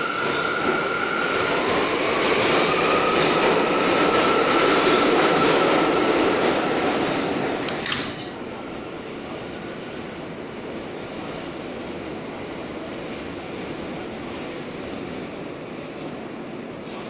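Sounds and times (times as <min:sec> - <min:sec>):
subway train rumble: 0:00.0 - 0:17.0
train passing: 0:00.0 - 0:17.0.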